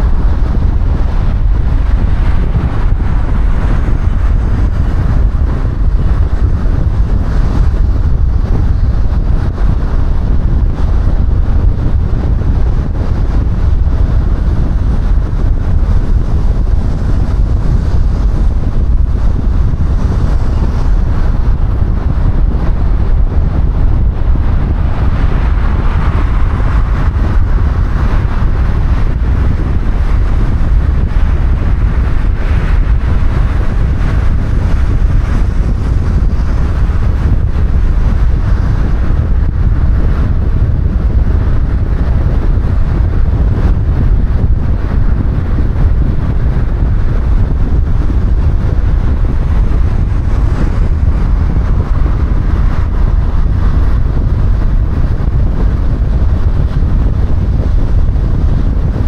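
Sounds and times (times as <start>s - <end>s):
car tyre and wind rumble: 0.0s - 59.0s.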